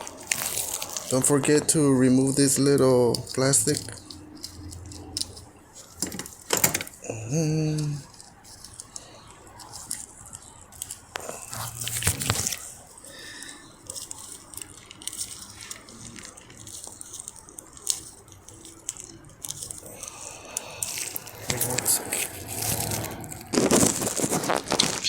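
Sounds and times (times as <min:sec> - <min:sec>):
plastic crinkling and crunching: 0:00.0 - 0:25.0.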